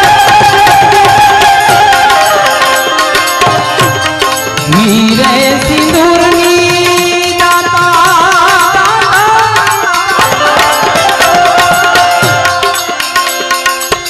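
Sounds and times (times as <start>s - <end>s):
hand drum beat: 0.0s - 14.0s
harmonium: 0.0s - 14.0s.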